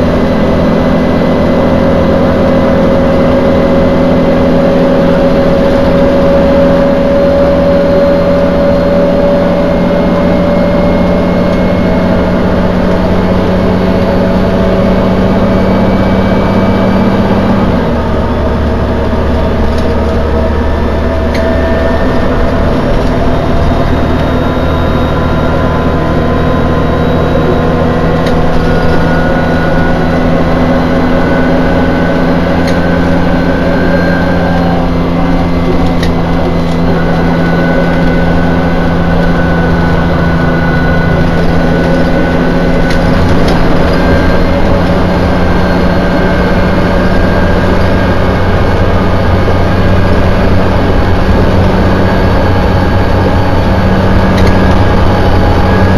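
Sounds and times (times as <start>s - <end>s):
bus diesel engine running: 0.0s - 55.9s
road noise: 0.0s - 55.9s.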